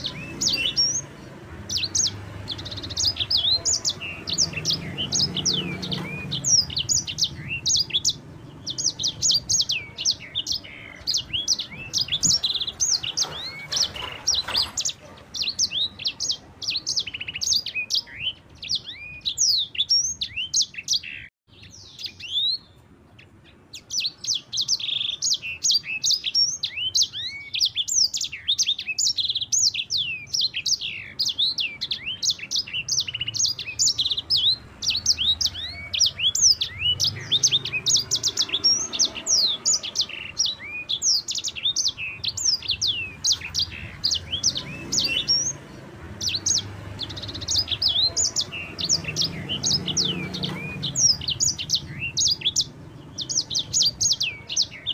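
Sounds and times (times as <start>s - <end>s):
finch singing rapid chirps: 0.0s - 54.9s.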